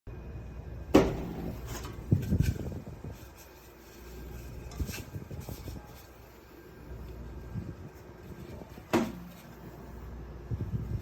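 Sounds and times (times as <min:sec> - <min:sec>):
low steady hum: 0:00.1 - 0:11.0.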